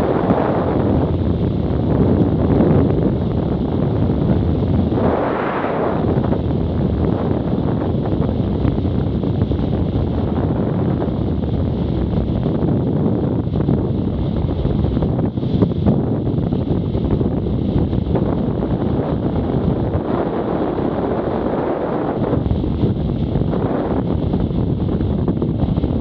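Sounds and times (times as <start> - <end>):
motorcycle ride rumble: 0.0 - 26.0
wind buffeting microphone: 0.0 - 26.0.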